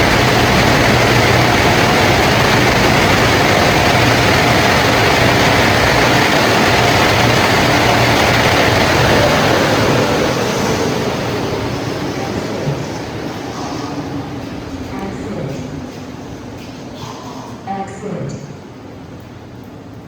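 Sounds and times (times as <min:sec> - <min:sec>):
car wash dryer blowers: 0:00.0 - 0:20.0.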